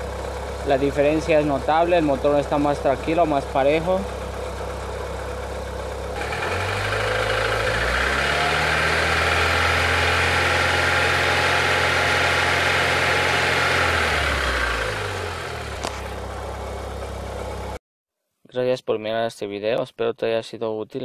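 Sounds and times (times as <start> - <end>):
car engine revving and idling: 0.0 - 17.8.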